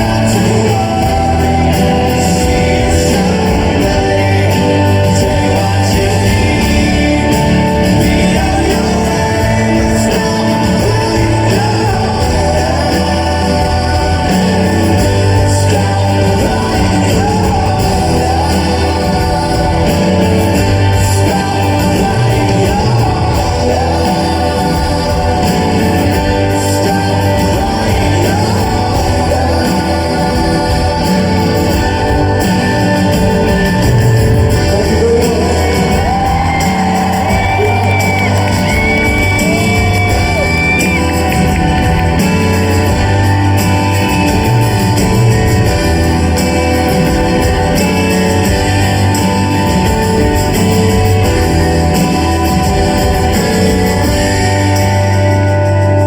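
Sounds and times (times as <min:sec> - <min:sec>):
crowd shouting: 0:00.0 - 0:55.8
live rock band playing: 0:00.0 - 0:56.0
person singing: 0:00.0 - 0:56.0.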